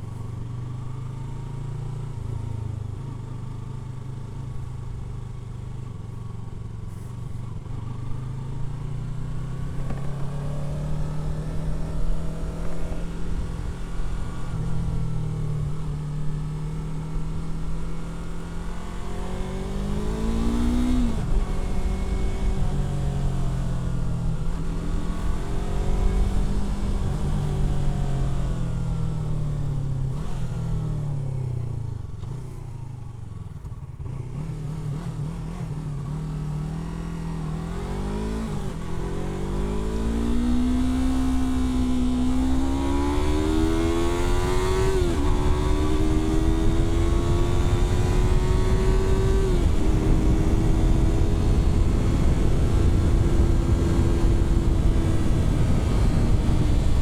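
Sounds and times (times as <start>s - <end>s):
motorcycle engine revving: 6.6s - 57.0s.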